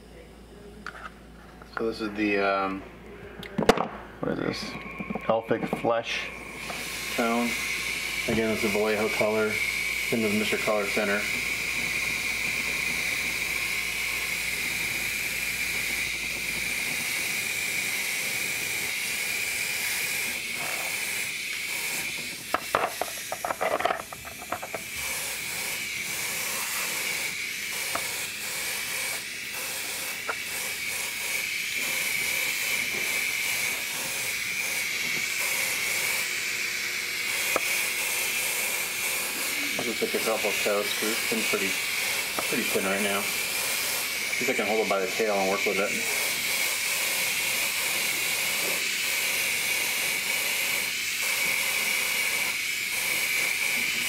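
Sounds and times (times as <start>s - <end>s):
airbrush hissing: 6.1s - 54.0s.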